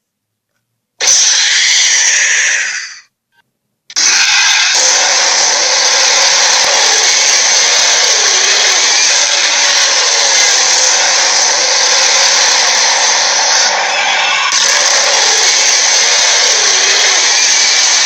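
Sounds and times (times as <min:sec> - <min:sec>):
giant creature roar: 0:01.0 - 0:03.0, 0:04.0 - 0:18.0.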